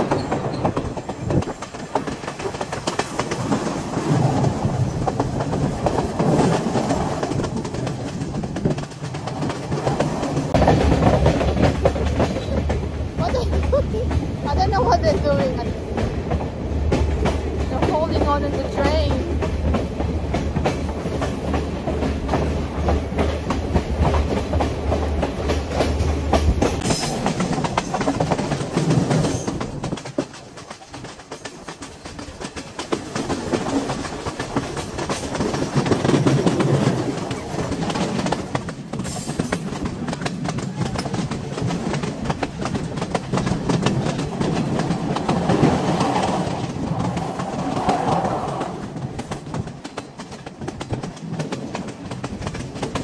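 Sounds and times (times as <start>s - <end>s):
passenger train running on track: 0.0s - 53.0s.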